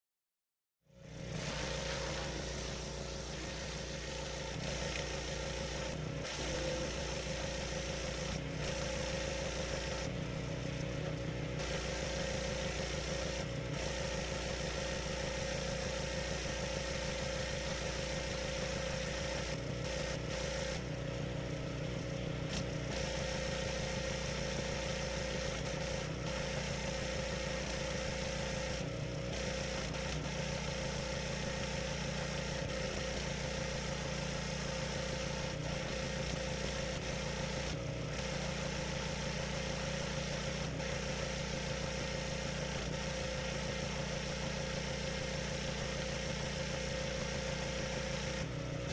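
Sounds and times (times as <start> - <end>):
petrol engine running: 1.0 - 48.9.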